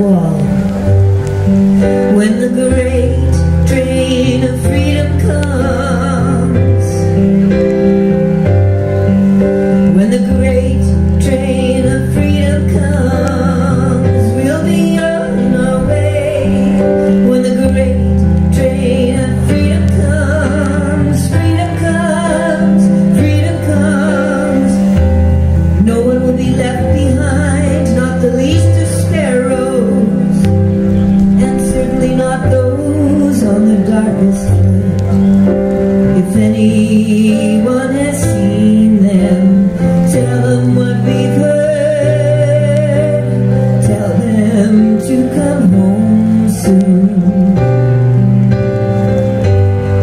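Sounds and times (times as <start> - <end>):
woman singing with vibrato: 0.0 - 1.1, 1.7 - 7.4, 9.8 - 48.1
piano chords: 0.0 - 50.0.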